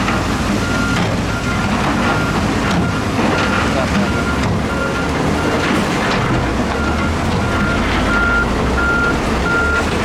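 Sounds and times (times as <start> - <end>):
diesel engine rumble: 0.0 - 10.0
reversing alarm beeping: 0.5 - 9.9.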